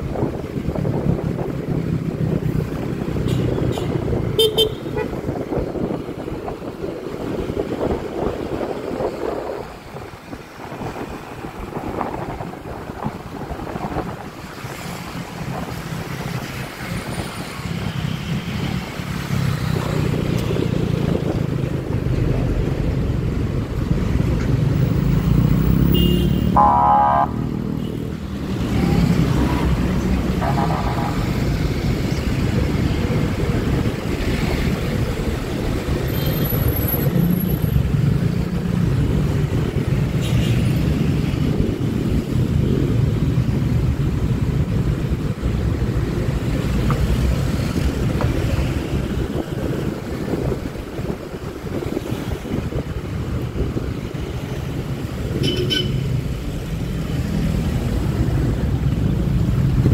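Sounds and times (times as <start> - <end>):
road and wind noise: 0.0 - 59.9.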